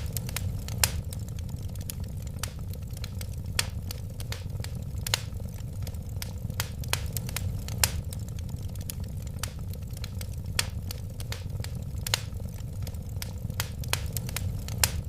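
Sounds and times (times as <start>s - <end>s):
low rumble of flames: 0.0s - 15.0s
wood fire crackles and pops: 0.0s - 15.0s.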